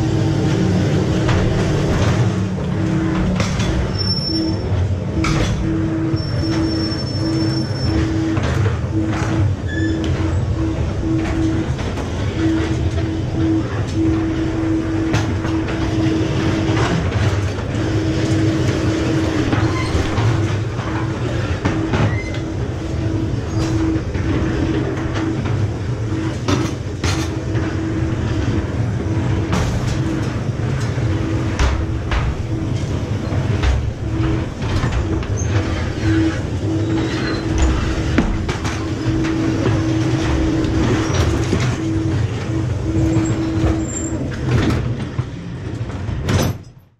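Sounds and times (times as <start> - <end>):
humming tone: 0.0 - 46.1
ride car rumbling on track: 0.0 - 46.9.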